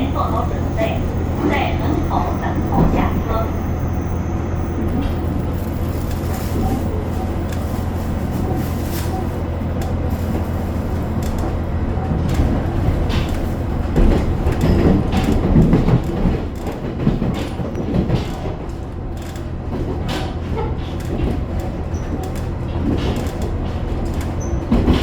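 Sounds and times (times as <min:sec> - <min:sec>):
train engine and wheels rumbling: 0:00.0 - 0:25.0
train rattling and clatter: 0:00.0 - 0:25.0.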